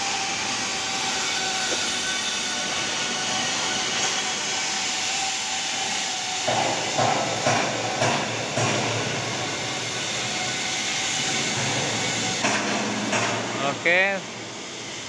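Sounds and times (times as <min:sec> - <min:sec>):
steady workshop hiss: 0:00.0 - 0:15.0.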